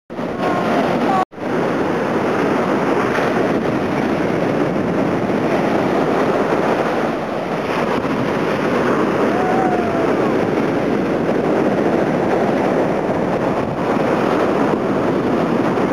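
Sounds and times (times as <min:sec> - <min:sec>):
surf breaking on a sandy beach: 0:00.1 - 0:15.9
wind blowing across microphone: 0:00.1 - 0:15.9.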